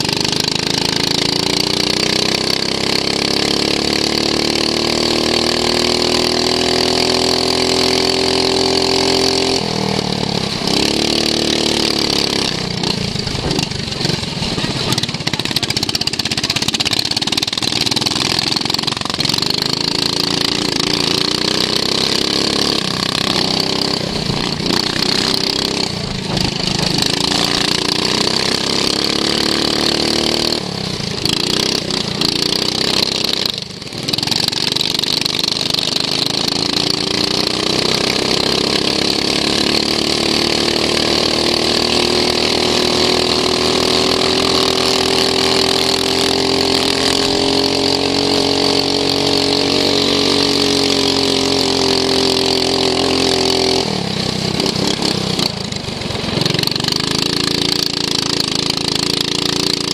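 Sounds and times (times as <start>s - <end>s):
lawn mower engine revving: 0.0s - 59.9s.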